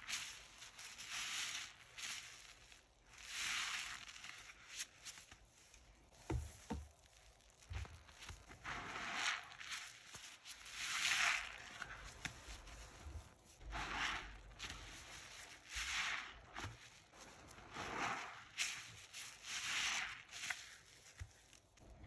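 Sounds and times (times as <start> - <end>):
sponge squelching: 0.0 - 22.0.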